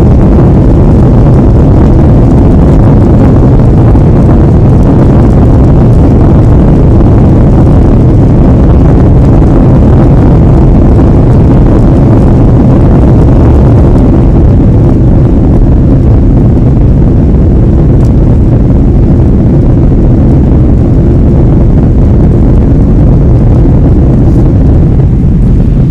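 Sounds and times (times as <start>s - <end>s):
jet engine low rumble: 0.0s - 25.9s.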